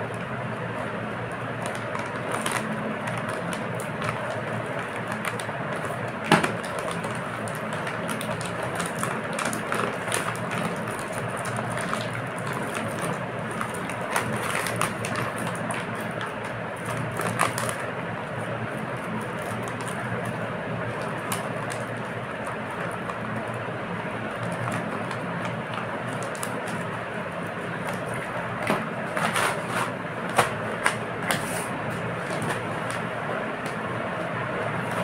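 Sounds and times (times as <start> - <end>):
plastic snack packet crackling: 1.4 - 17.9, 18.9 - 33.9.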